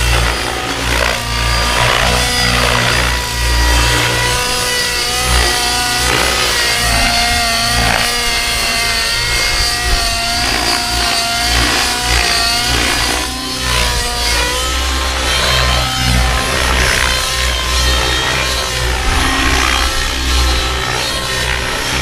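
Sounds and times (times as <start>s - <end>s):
rc helicopter engine and rotor: 0.0s - 22.0s.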